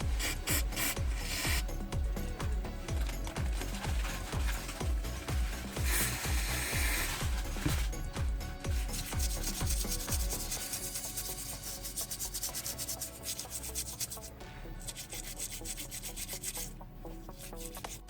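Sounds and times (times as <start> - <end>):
background music with bass beat: 0.0 - 18.0
rapid rubbing strokes: 0.0 - 18.0.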